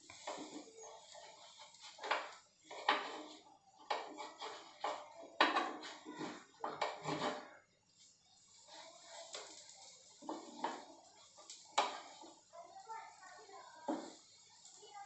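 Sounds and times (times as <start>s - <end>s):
spatula scraping a griddle: 0.0s - 15.0s.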